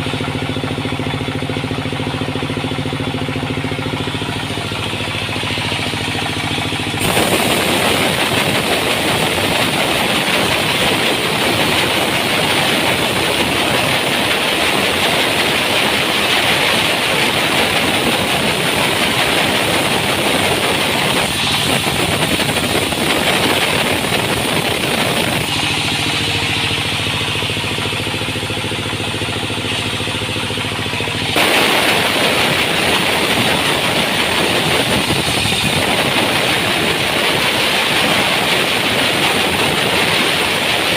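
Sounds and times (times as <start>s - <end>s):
engine hum: 0.0s - 40.9s.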